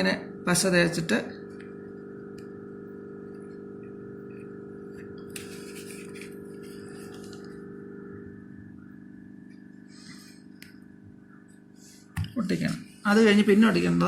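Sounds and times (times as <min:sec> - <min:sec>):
steady hum of even tones: 0:00.0 - 0:14.0.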